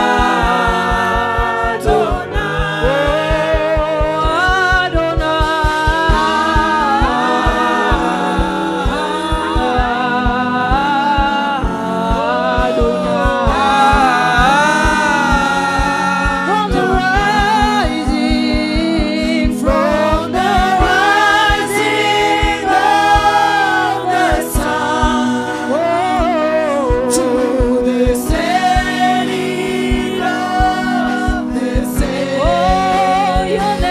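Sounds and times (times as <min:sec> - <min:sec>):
low beat: 0:00.0 - 0:33.9
sustained keyboard chord: 0:00.0 - 0:33.9
voices singing: 0:00.0 - 0:33.9.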